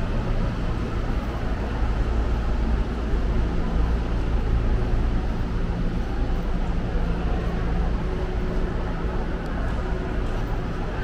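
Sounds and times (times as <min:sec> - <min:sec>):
low hum: 0:00.0 - 0:11.0
vehicle running rumble: 0:00.0 - 0:11.0.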